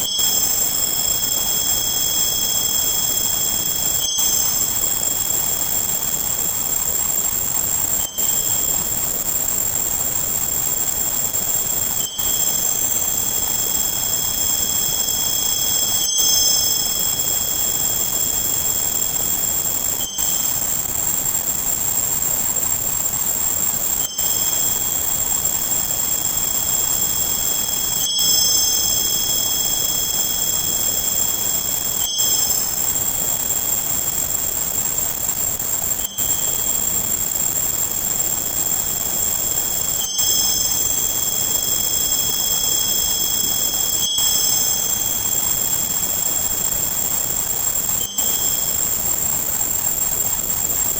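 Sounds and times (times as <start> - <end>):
high steady tones: 0.0 - 50.9
steady hiss of noise: 0.0 - 50.9.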